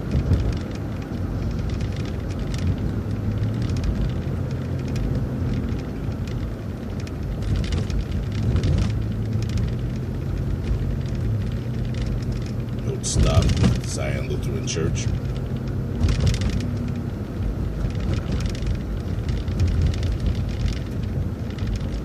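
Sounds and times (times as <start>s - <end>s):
bus engine drone: 0.0s - 22.0s
light rattles: 0.0s - 22.0s
road noise: 0.0s - 22.0s.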